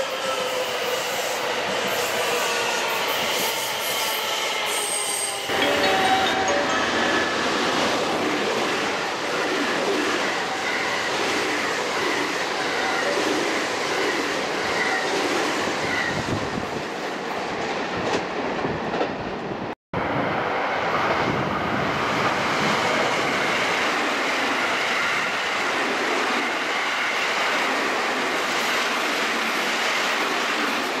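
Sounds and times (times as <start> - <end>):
train wheels rushing on rails: 0.0 - 31.0.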